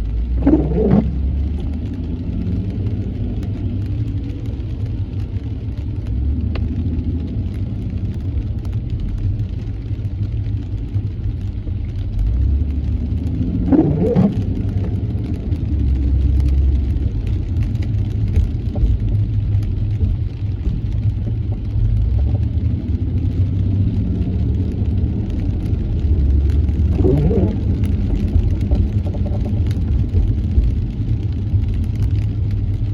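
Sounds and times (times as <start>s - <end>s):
car interior road and engine rumble: 0.0s - 32.9s.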